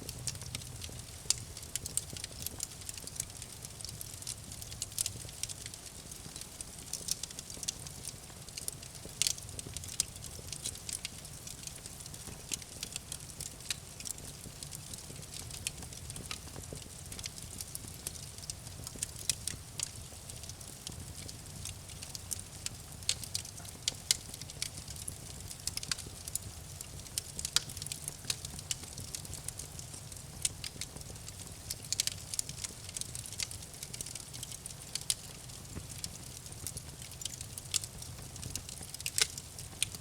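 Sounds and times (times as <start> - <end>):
burning wood crackling and popping: 0.0 - 40.0
low rumble of flames: 0.0 - 40.0.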